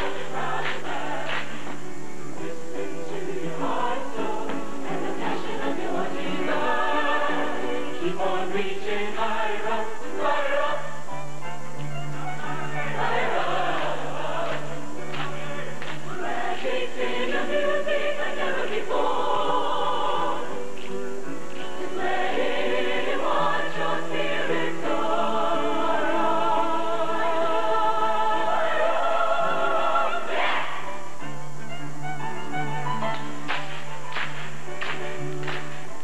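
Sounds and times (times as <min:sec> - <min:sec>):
choir singing in harmony: 0:00.0 - 0:31.4.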